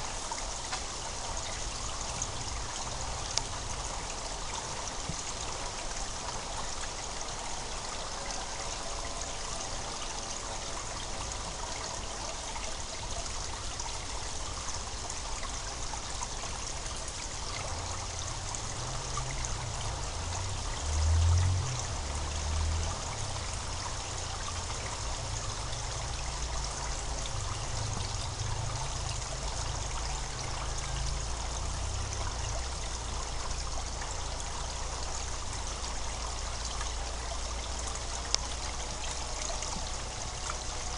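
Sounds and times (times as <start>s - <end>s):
water gurgling and trickling: 0.0s - 40.9s.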